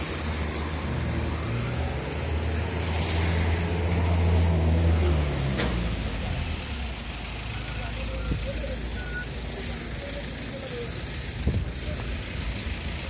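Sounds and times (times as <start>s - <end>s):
street noise: 0.0s - 13.0s
vehicle engine humming: 0.0s - 13.0s.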